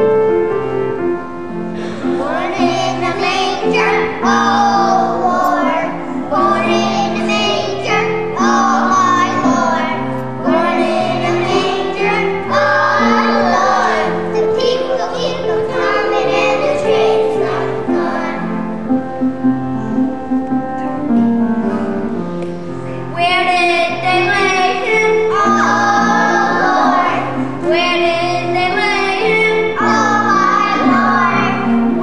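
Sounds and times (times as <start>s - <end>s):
piano accompaniment: 0.0s - 32.0s
children's choir singing: 1.7s - 19.0s, 23.1s - 32.0s.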